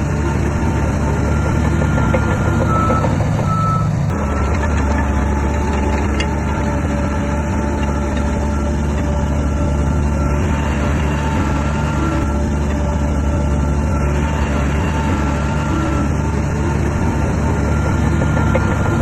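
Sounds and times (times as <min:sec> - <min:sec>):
bulldozer engine drone: 0:00.0 - 0:19.0
reversing alarm beeping: 0:00.7 - 0:19.0.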